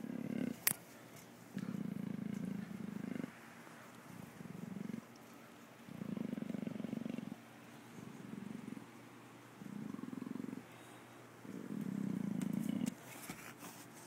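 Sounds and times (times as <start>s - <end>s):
leopard purring: 0.0s - 0.8s, 1.5s - 13.0s.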